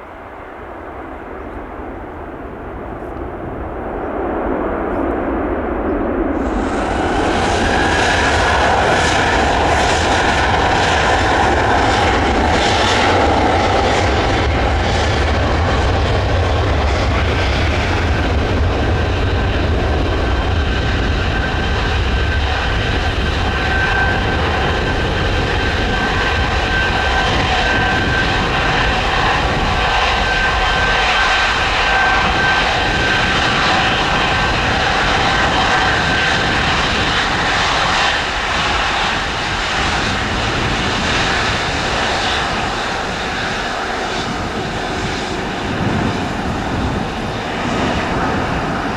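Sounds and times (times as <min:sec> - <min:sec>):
jet engine rumble and whine: 0:00.0 - 0:48.9.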